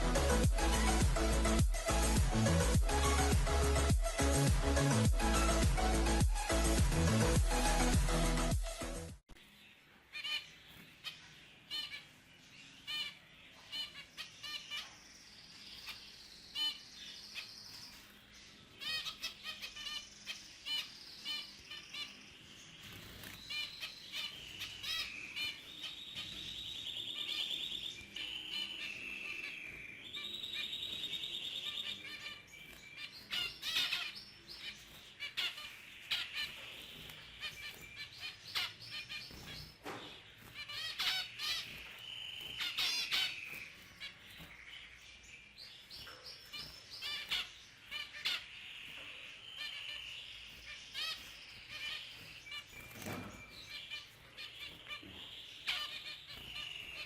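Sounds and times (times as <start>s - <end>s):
buzzy finch song: 0.0s - 57.0s.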